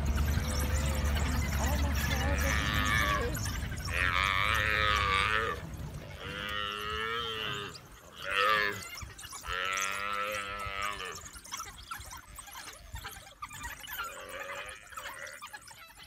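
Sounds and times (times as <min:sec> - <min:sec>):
buffalo bawling: 0:00.0 - 0:16.0.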